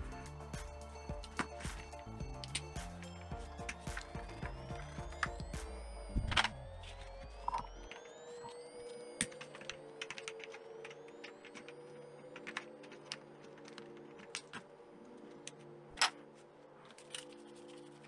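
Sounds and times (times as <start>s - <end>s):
quiet background music: 0.0s - 18.0s.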